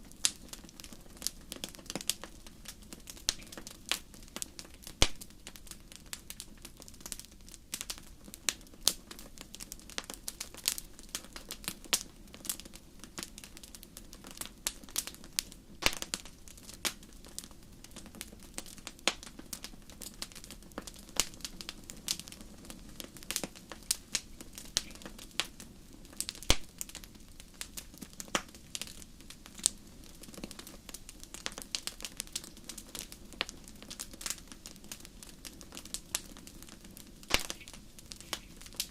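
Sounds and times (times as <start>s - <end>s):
hiss of flames: 0.0s - 38.9s
sharp snaps of fire: 0.0s - 38.9s
wood fire crackling and popping: 0.0s - 38.9s.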